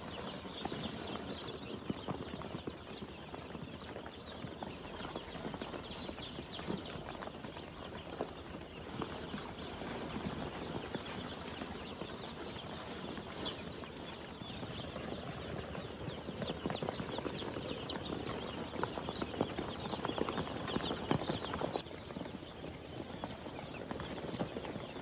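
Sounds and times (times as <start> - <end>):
chickens clucking and peeping: 0.0 - 25.0.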